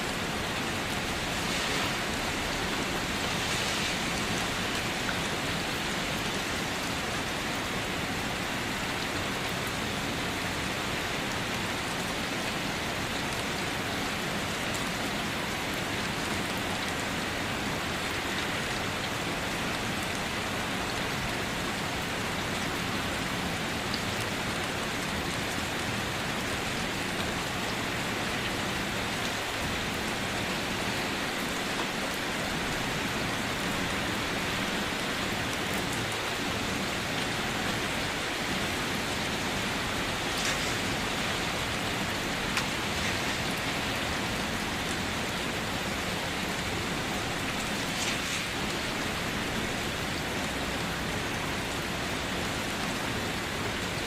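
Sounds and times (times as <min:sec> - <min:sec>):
rain falling on a car: 0:00.0 - 0:54.0.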